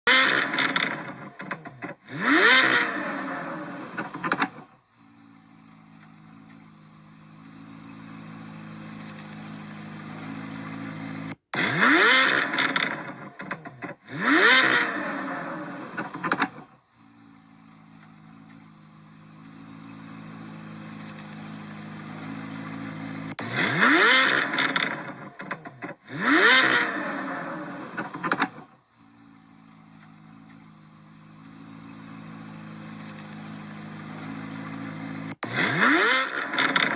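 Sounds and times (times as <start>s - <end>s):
car engine throttle revs: 0.1s - 36.9s.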